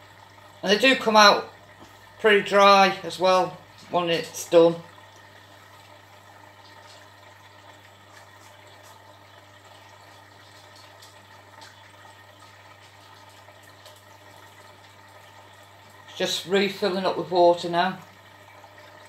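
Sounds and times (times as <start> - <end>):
washing machine filling with water: 0.0 - 19.0.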